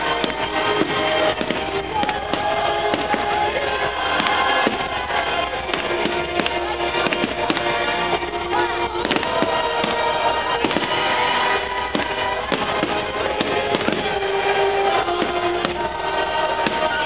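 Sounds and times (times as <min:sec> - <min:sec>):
firework crackle: 0:00.0 - 0:17.0
firework shells bursting: 0:00.0 - 0:17.0
music playing: 0:00.0 - 0:17.0.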